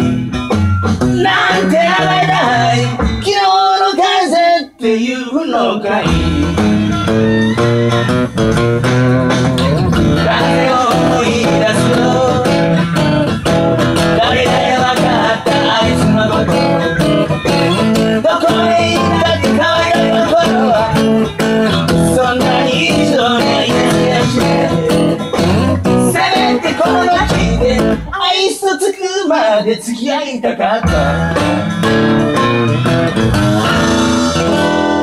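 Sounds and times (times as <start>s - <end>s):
acoustic guitar strumming blues: 0.0s - 35.0s.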